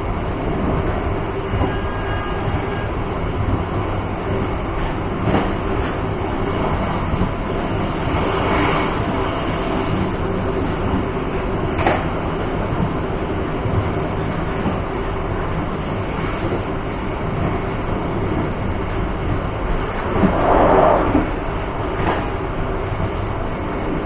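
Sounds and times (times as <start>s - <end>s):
train carriage rumbling on rails: 0.0s - 24.0s.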